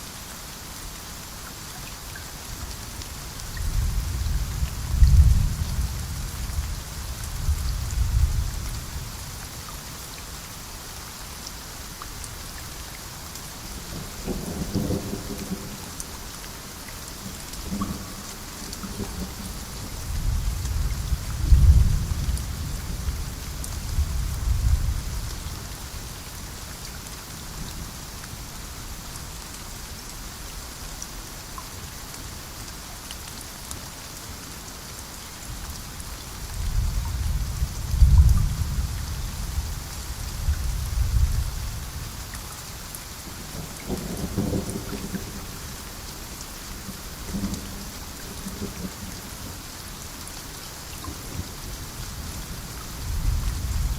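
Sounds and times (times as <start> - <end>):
heavy rain hissing: 0.0 - 53.9.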